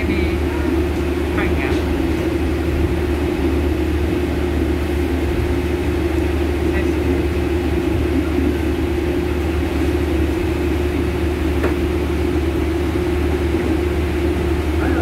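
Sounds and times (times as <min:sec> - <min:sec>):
train carriage rumble and hum: 0:00.0 - 0:15.0.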